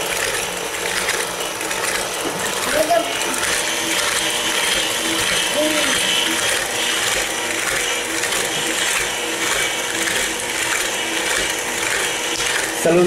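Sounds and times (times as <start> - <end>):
stand mixer motor running: 0.0 - 13.0.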